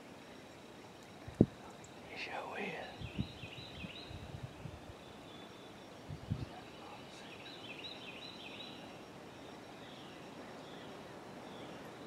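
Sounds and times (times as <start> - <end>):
songbird chirping: 0.1 - 12.0.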